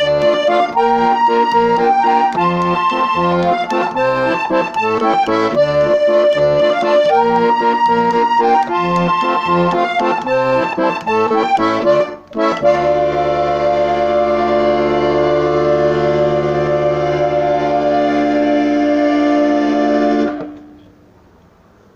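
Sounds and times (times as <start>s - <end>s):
accordion playing a waltz: 0.0s - 20.8s.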